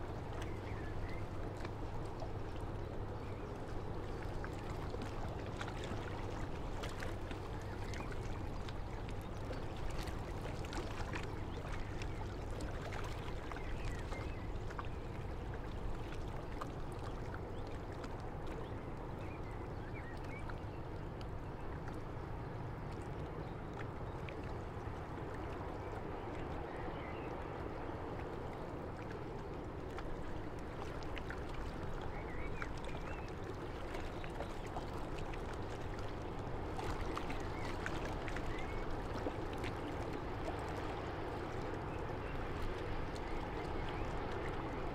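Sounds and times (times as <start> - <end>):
water lapping and splashing: 0.0 - 44.9.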